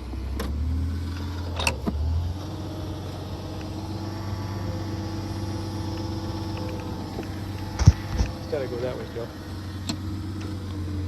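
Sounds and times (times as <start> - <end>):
auger engine running: 0.0 - 11.0.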